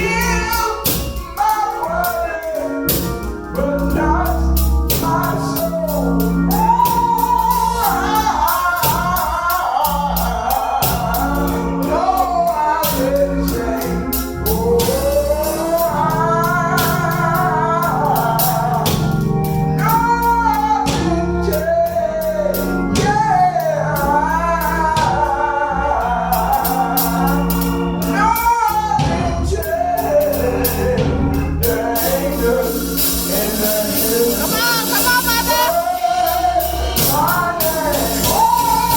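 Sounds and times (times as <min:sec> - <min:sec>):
bass: 0:00.0 - 0:38.9
gospel singing: 0:00.0 - 0:38.9
organ: 0:00.0 - 0:38.9.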